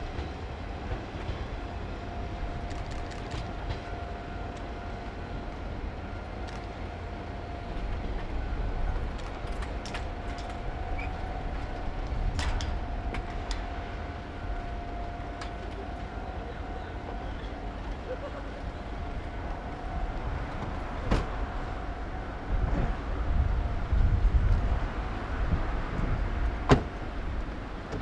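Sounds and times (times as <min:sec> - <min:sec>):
thin steady whine: 0:00.0 - 0:27.9
train rumble: 0:00.0 - 0:28.0
wheels clicking and squeaking on rails: 0:00.0 - 0:28.0.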